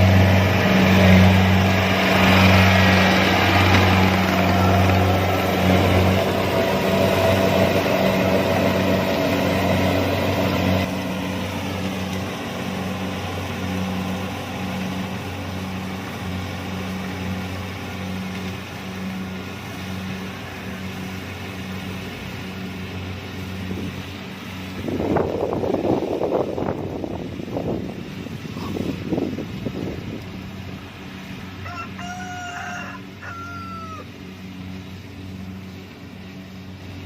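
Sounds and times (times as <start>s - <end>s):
combine harvester running: 0.0s - 37.0s.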